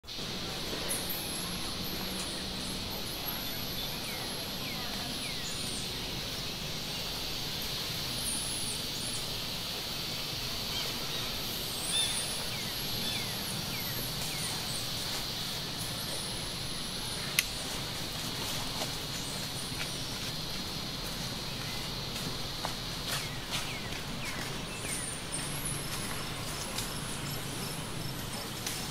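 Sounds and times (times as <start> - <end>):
steady high-pitched hiss: 0.0 - 28.9
small birds chirping: 0.3 - 28.9.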